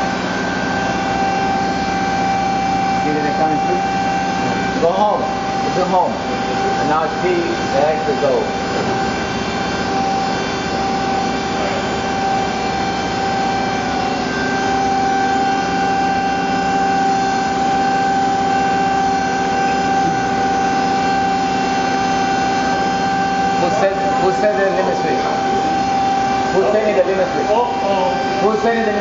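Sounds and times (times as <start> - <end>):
milling machine whine: 0.0 - 29.0.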